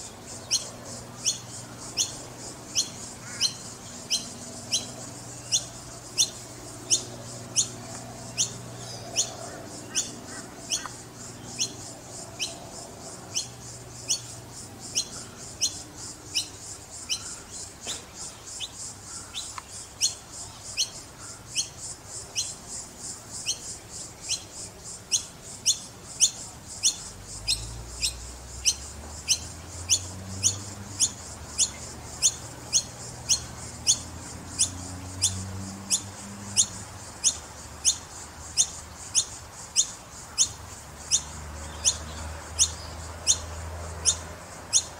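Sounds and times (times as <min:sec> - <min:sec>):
fledgling birds calling: 0:00.0 - 0:44.9.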